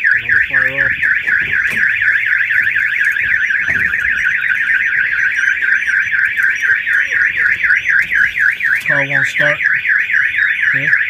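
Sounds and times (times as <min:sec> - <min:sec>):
car alarm siren warbling: 0:00.0 - 0:11.0.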